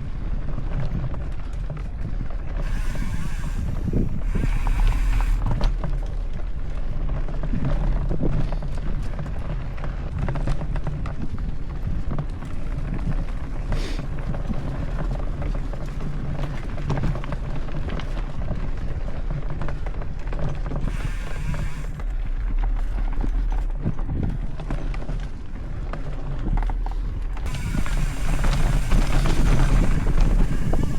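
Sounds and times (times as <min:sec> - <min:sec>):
bike rattling and knocking: 0:00.0 - 0:30.9
bike tyre noise: 0:00.0 - 0:30.9
wind rumbling on microphone: 0:00.0 - 0:30.9.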